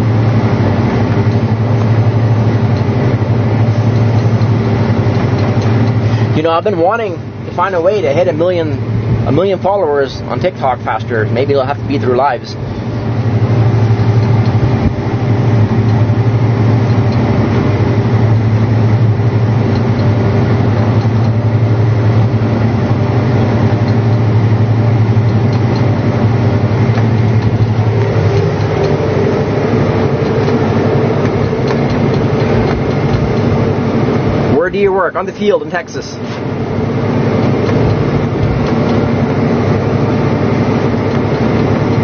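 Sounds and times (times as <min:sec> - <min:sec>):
tractor diesel engine droning: 0:00.0 - 0:42.0.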